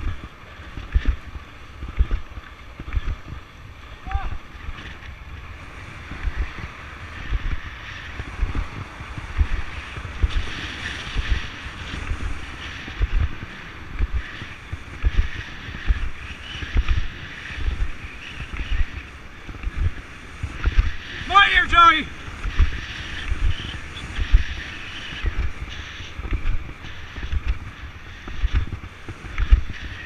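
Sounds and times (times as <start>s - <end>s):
longboard wheels rolling on asphalt: 0.0s - 30.0s
wind buffeting microphone: 0.0s - 30.0s.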